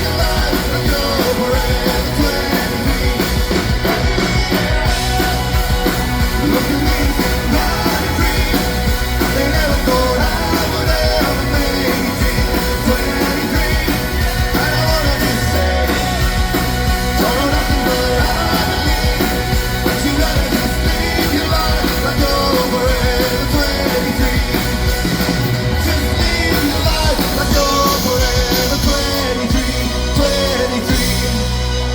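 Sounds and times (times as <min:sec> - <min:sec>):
live rock band playing: 0:00.0 - 0:31.9
man singing: 0:00.0 - 0:31.9.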